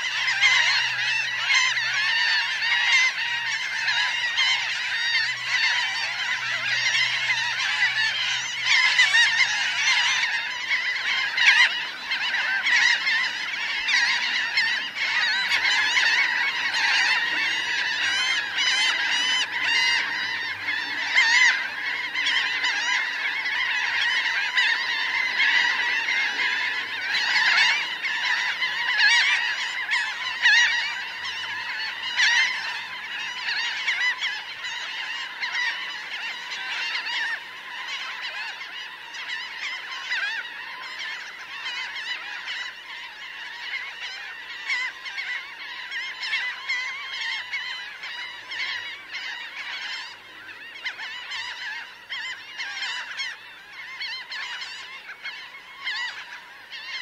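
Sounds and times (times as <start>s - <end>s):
flock of gulls calling: 0.0s - 57.0s.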